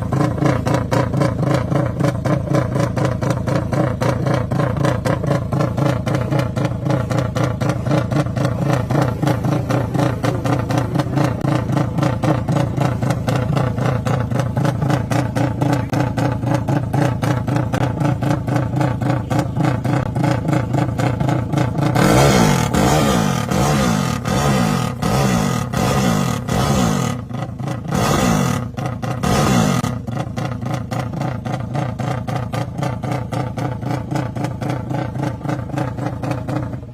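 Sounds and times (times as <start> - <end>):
motorcycle engine idling and revving: 0.0 - 36.9.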